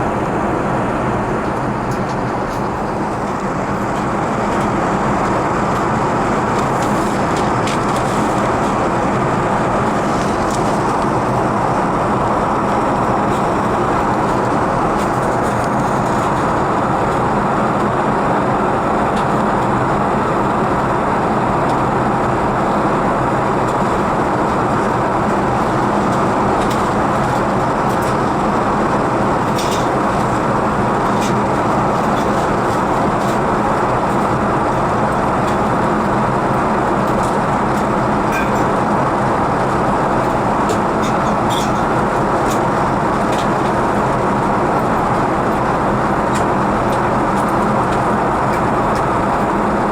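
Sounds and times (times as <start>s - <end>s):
airliner cabin engine and airflow rush: 0.0s - 49.9s.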